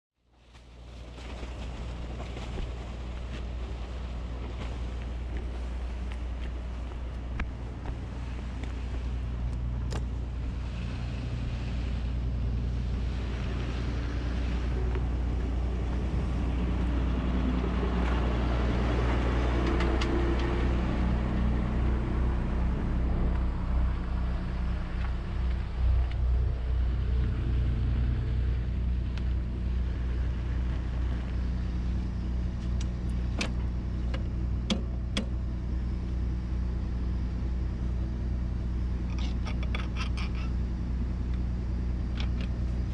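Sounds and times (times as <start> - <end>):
tractor diesel engine running: 7.6 - 42.9.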